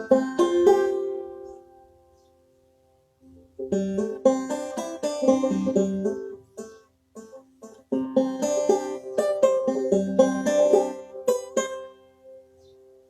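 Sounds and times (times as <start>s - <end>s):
banjo plucking: 0.0s - 2.3s, 3.2s - 13.0s.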